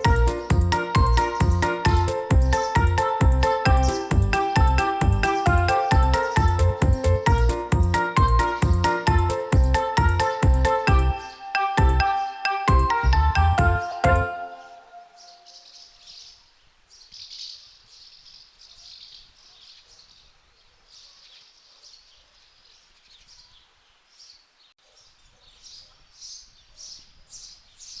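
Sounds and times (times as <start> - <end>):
small birds chirping: 0.0 - 11.4, 13.6 - 28.0.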